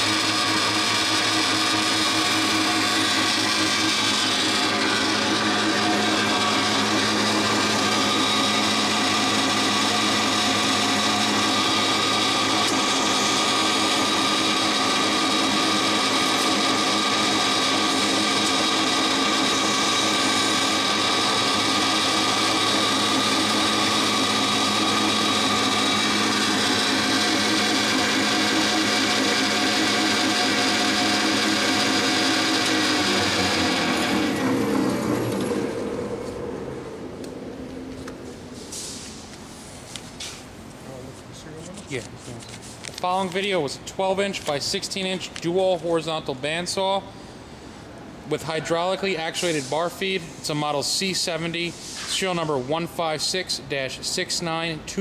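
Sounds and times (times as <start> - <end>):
band saw machine hum and whine: 0.0 - 42.2, 42.8 - 55.0.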